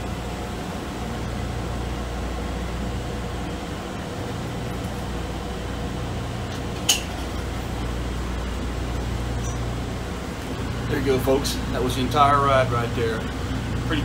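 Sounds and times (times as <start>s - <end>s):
tram cabin hum and rumble: 0.0s - 14.0s.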